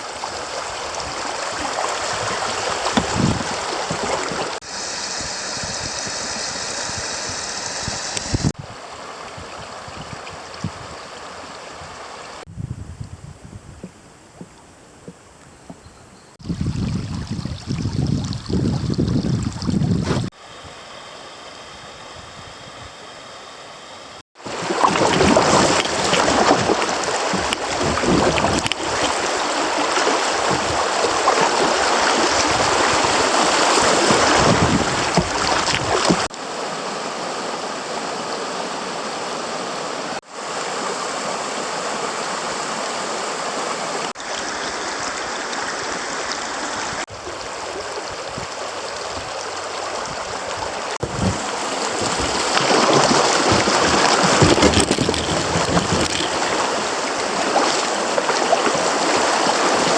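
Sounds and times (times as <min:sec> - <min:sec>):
creek water rushing and splashing: 0:00.0 - 0:12.5, 0:16.4 - 0:20.6, 0:24.4 - 0:59.9.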